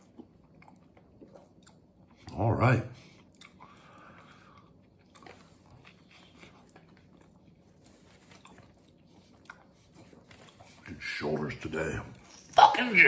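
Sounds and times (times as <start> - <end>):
faint chewing: 0.0 - 12.6.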